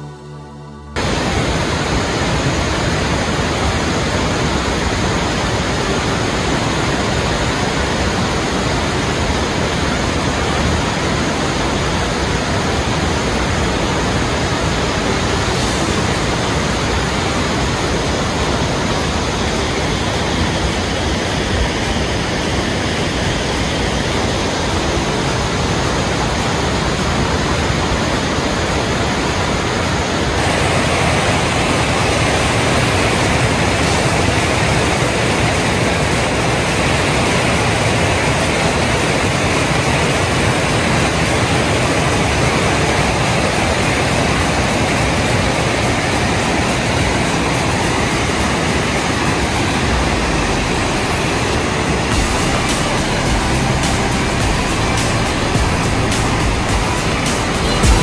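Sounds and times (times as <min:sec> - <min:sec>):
waterfall rushing: 0:01.0 - 0:58.0.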